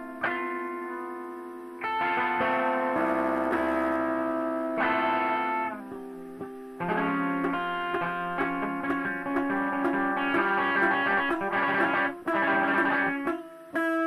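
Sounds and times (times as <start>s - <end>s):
electric guitar noise rock: 0.0s - 14.0s.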